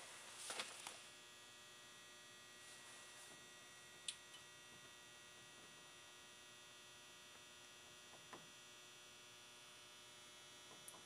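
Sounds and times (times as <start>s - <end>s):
faint electrical hum and whine: 0.0s - 11.0s.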